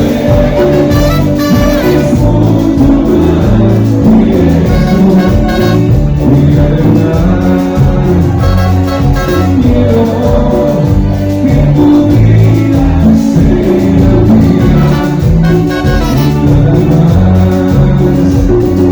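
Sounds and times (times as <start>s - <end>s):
latin band music with horns: 0.0s - 18.9s.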